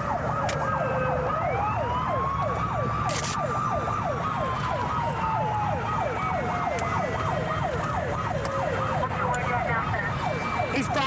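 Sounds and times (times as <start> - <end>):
engine and road rumble: 0.0 - 11.0
police siren wail: 0.0 - 11.0
police siren yelp: 0.0 - 11.0.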